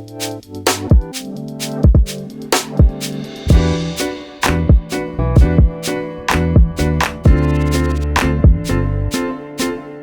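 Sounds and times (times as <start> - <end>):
music with drum beat and bass: 0.0 - 9.8.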